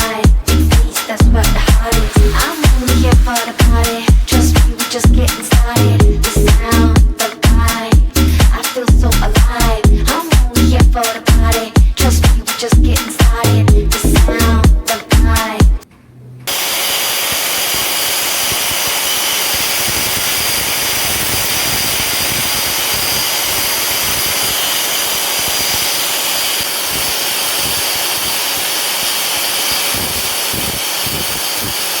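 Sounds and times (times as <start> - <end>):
belt sander hissing: 0.0 - 11.8, 16.5 - 32.0.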